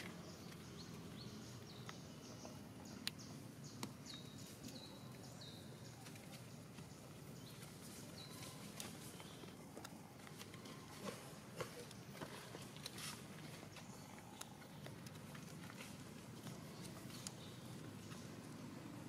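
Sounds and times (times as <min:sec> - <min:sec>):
bird chirping: 0:00.0 - 0:19.0
faint outdoor background: 0:00.0 - 0:19.0.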